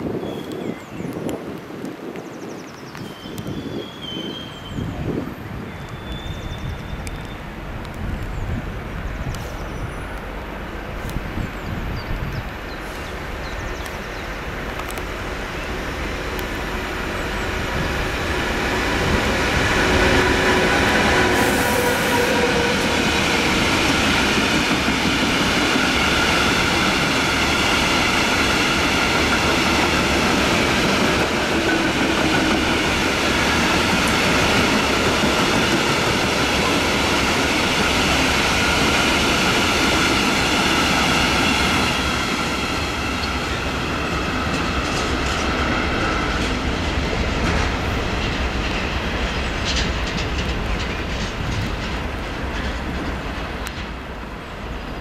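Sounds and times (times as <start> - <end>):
freight train rolling rumble: 3.0 - 55.0.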